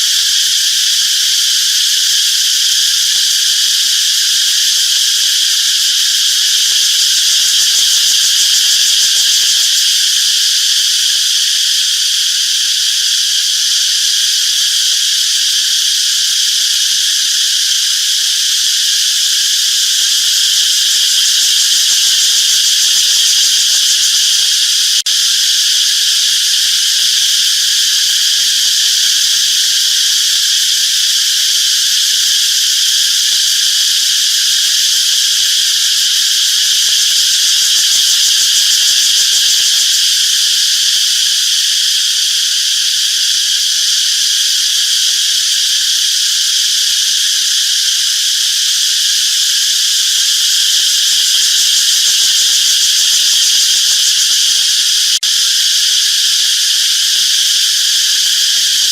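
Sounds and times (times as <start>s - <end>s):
insects buzzing: 0.0s - 58.9s.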